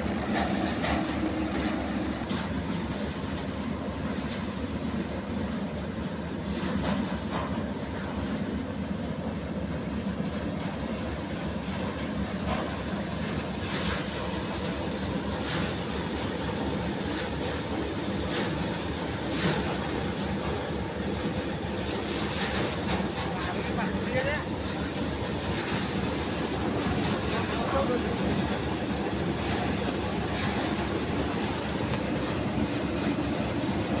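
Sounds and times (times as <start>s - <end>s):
thresher engine drone: 0.0s - 34.0s.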